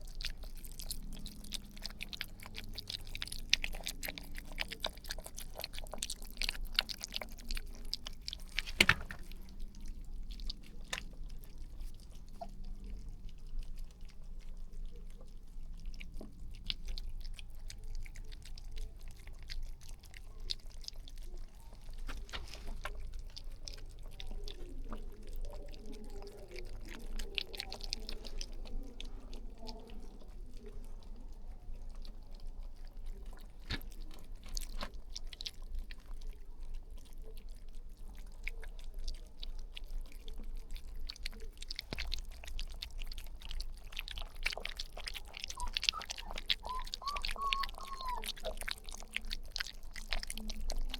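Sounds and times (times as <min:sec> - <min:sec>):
puppies chewing and eating: 0:00.0 - 0:50.9.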